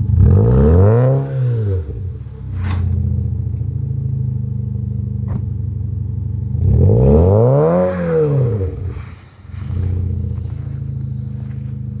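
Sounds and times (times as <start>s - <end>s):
car exhaust idling and revving: 0.0s - 12.0s.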